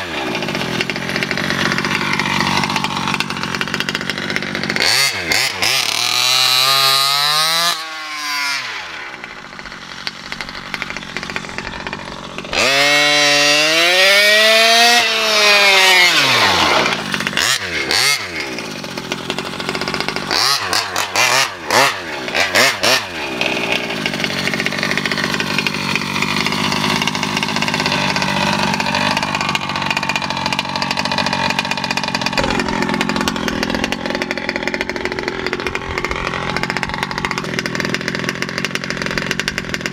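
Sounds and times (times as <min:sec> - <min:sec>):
rc truck engine revving: 0:00.0 - 0:39.9.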